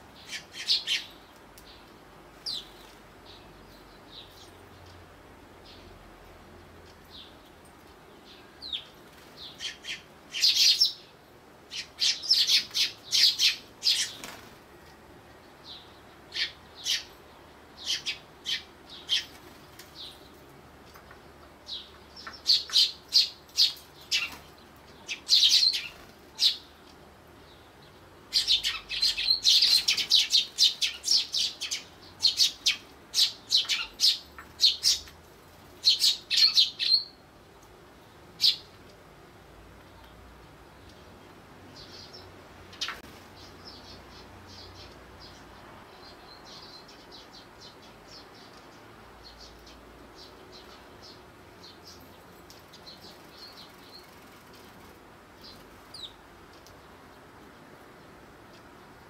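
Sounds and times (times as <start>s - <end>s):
sparrows chirping: 0.0s - 37.3s, 38.0s - 38.8s, 39.8s - 59.0s.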